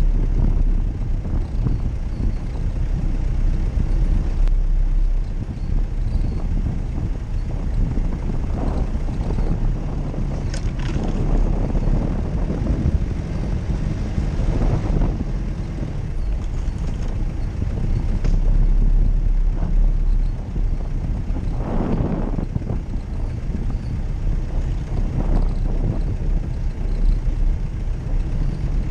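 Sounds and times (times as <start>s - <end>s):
heavy engine rumble: 0.0s - 28.9s.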